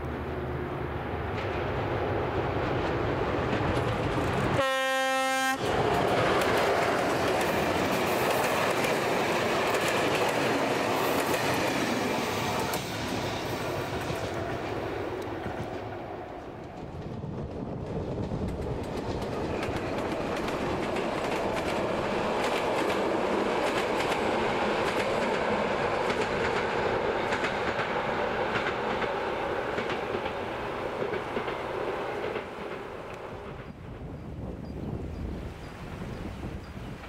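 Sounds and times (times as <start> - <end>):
train wheels clicking over rail joints: 2.6 - 4.6, 5.6 - 34.2.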